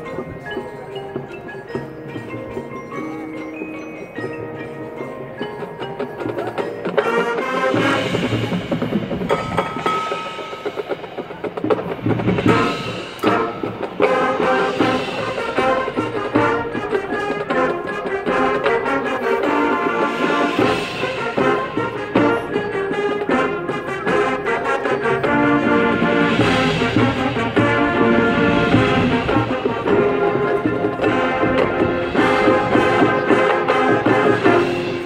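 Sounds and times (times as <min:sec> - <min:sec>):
drums: 0:00.0 - 0:35.0
mallet percussion: 0:00.0 - 0:35.0
marching band playing: 0:00.0 - 0:35.0.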